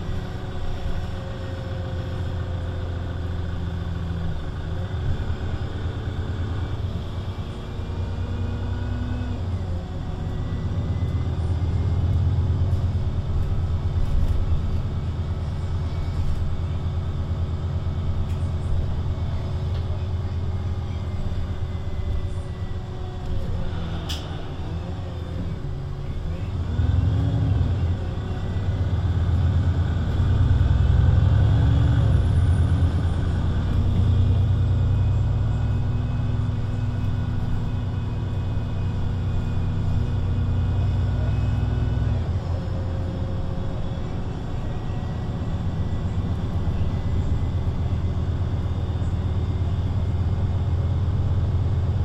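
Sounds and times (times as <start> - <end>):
bus diesel engine idling: 0.0 - 52.0.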